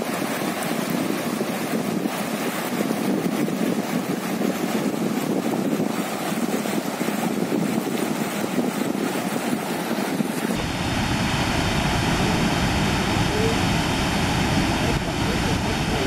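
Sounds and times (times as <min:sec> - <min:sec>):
water rushing over rocks: 0:00.0 - 0:16.0
waterfall rushing: 0:00.0 - 0:16.0.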